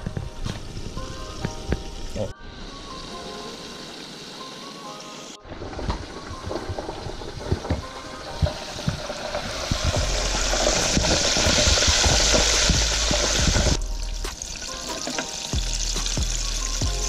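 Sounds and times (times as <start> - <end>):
fish frying in hot oil: 2.8 - 17.0.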